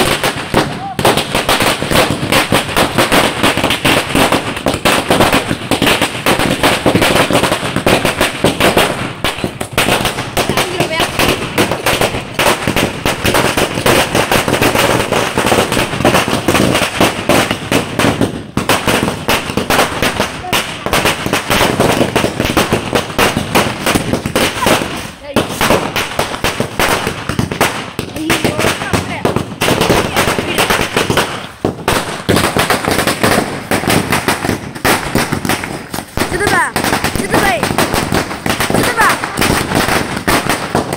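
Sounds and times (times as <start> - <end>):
firecrackers banging: 0.0 - 40.9.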